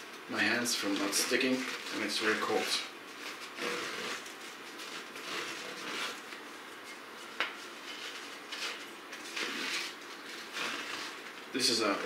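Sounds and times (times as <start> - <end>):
fabric tape rustling: 0.9 - 11.4.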